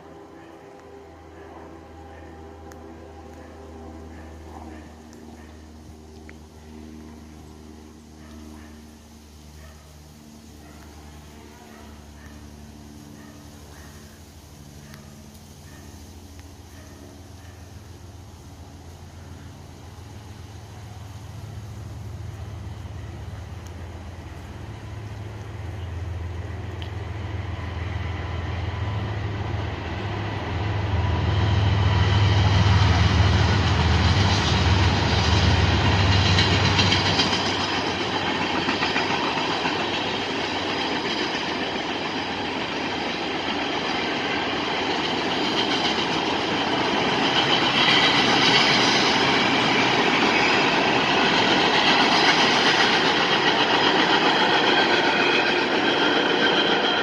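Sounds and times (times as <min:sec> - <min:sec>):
deep low train rumble: 0:00.0 - 0:57.0.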